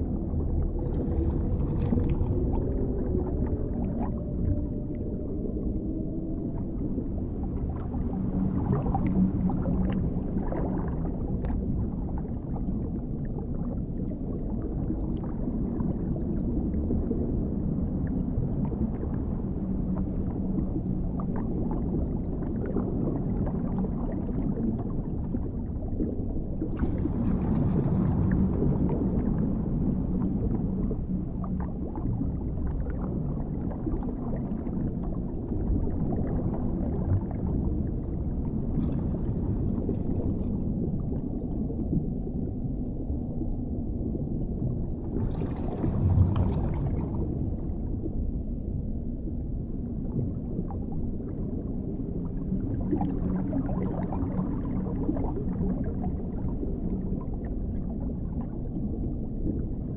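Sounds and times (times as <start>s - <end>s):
bubbling and gurgling: 0.0s - 59.9s
faint low drone: 0.0s - 59.9s
muffled underwater rumble: 0.0s - 59.9s.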